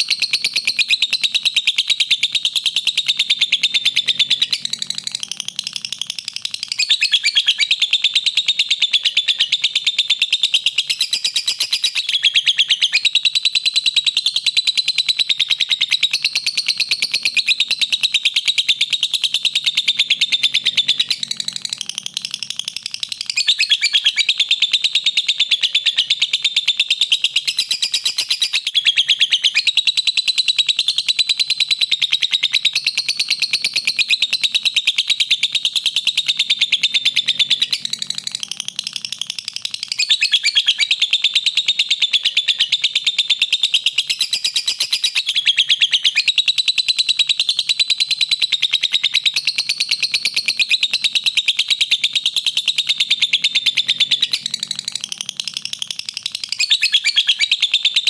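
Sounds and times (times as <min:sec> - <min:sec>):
lovebird chattering trill: 0:00.0 - 0:58.0.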